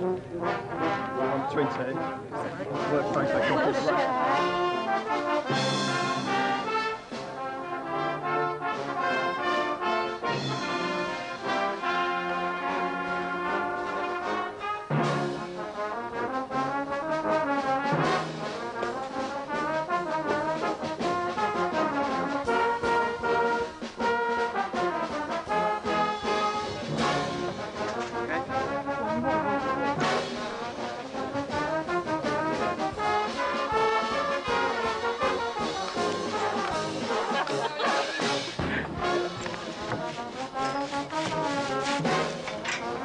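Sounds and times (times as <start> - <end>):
brass band playing: 0.0 - 43.0.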